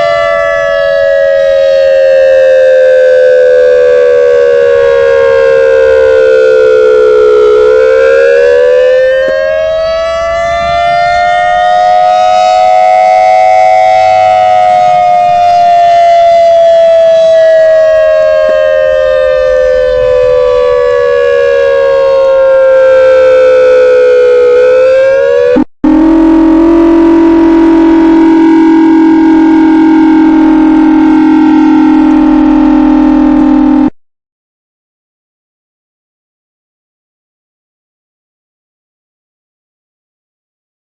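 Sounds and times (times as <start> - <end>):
outdoor warning siren: 0.0 - 34.0.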